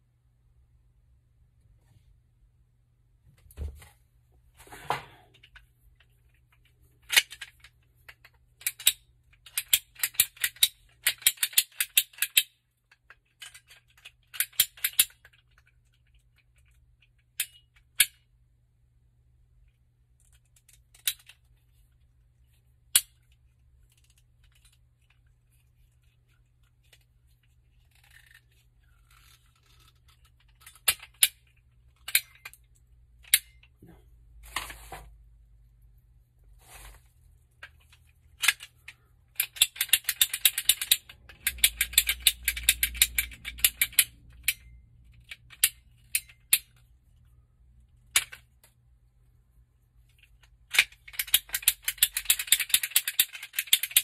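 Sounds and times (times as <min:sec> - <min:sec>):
tools and plastic pipe clicking: 0:04.8 - 0:18.4, 0:19.6 - 0:35.1, 0:37.5 - 0:48.8, 0:50.0 - 0:54.0.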